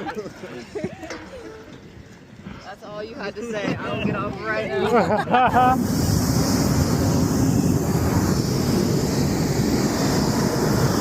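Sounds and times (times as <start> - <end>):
wind buffeting microphone: 1.7 - 11.0.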